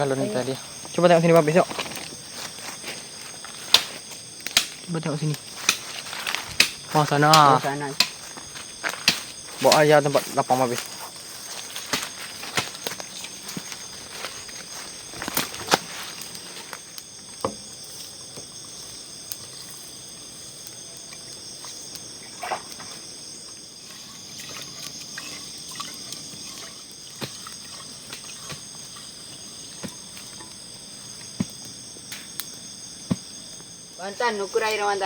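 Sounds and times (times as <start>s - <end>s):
night insects chirring: 0.0s - 35.0s.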